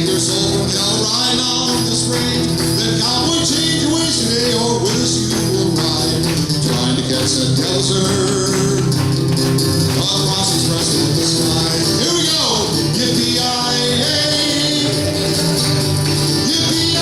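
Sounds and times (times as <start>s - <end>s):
live band music: 0.0s - 17.0s
tambourine shaking: 0.0s - 17.0s.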